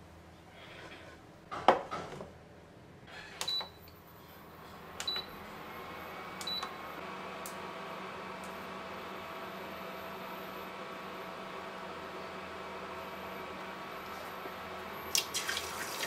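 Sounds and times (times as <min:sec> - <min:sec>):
cooling fan humming: 0:02.4 - 0:16.0.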